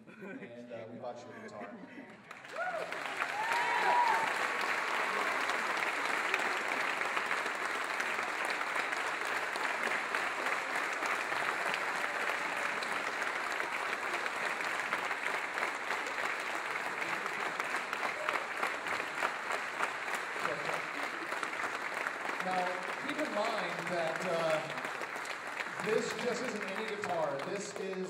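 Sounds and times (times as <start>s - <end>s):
crowd applauding: 2.2s - 28.0s.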